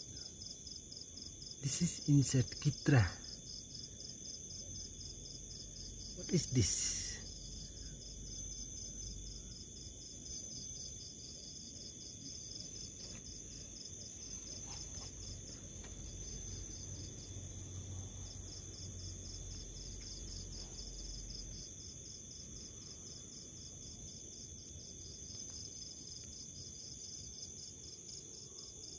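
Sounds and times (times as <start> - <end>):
cricket chirping: 0.0 - 28.9.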